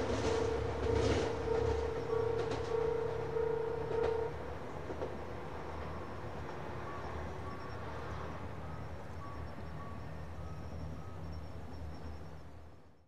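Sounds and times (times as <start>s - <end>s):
diesel engine humming: 0.0s - 12.8s.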